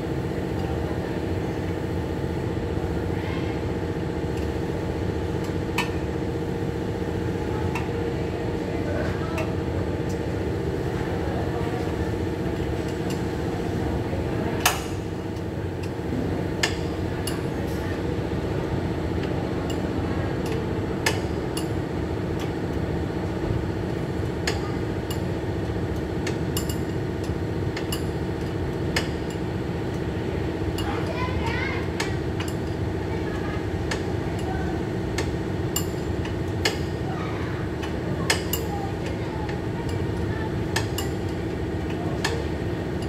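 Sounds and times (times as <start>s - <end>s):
workshop hum: 0.0s - 43.0s.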